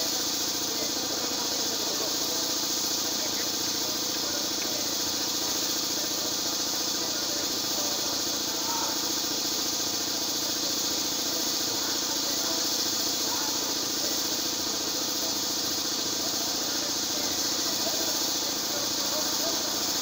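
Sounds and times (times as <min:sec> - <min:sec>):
high hiss: 0:00.0 - 0:20.0.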